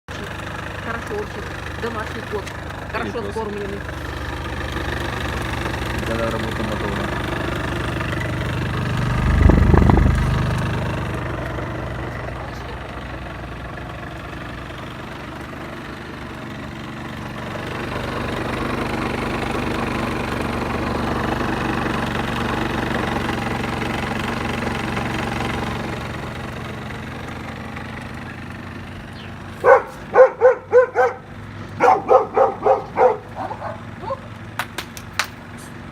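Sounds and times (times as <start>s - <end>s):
scooter engine running: 0.0s - 35.9s.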